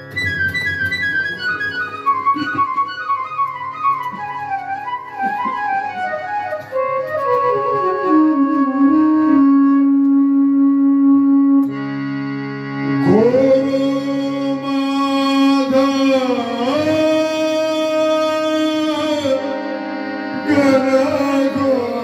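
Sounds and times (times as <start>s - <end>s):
devotional song melody: 0.0s - 22.0s
low steady accompanying note: 0.0s - 22.0s.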